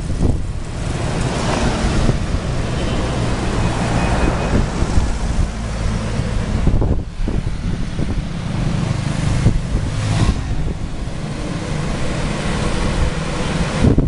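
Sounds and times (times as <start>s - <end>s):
cars and motorbikes: 0.0s - 14.0s
road noise rumble: 0.0s - 14.0s
wind buffeting microphone: 0.0s - 14.0s.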